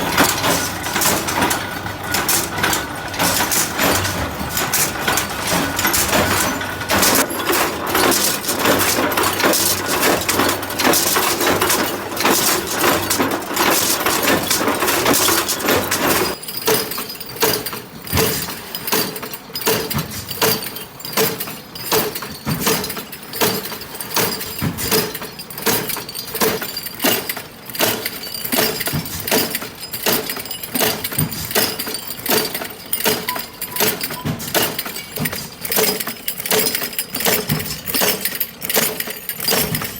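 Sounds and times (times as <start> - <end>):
factory machinery clattering: 0.0 - 39.9.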